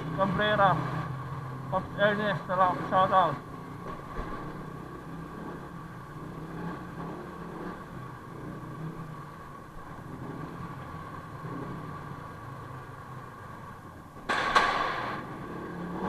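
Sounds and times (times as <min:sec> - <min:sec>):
scooter engine humming: 0:00.0 - 0:14.4.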